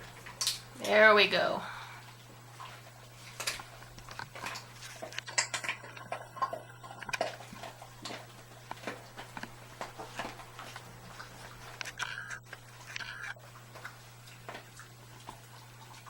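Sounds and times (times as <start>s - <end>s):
dog crunching a hard treat: 2.7s - 16.0s.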